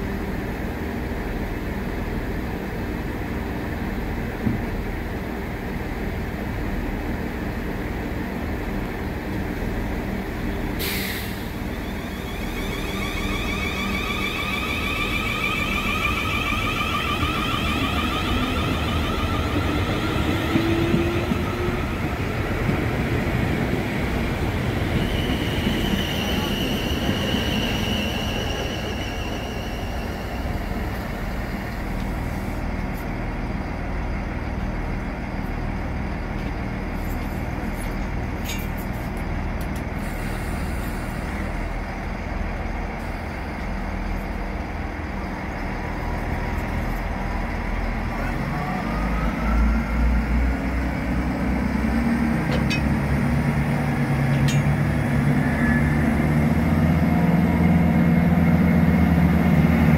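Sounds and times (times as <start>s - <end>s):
diesel train engine rumble: 0.0s - 59.9s
electric train inverter whine: 0.0s - 59.9s
wheels rumbling on rail: 0.0s - 59.9s.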